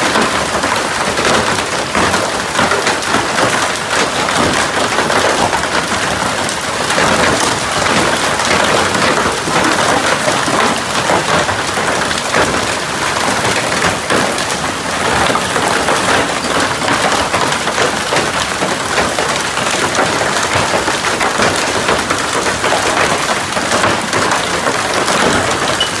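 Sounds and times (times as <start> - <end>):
hail clattering: 0.0 - 26.0.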